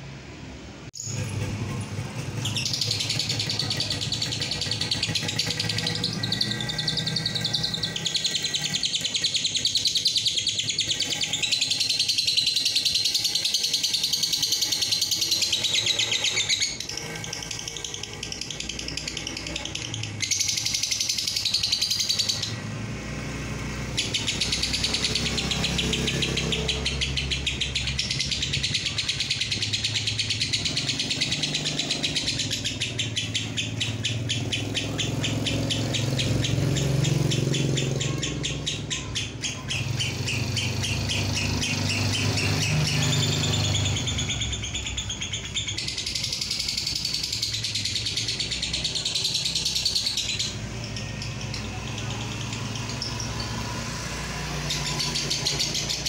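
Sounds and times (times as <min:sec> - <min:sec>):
lovebird chattering: 0:01.0 - 0:22.7, 0:23.5 - 0:56.0.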